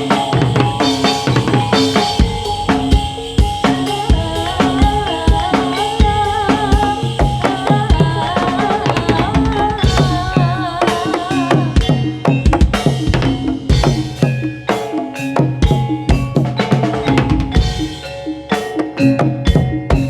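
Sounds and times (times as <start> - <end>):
hand drums beating: 0.0 - 20.0
wavering melodic line: 0.0 - 20.0.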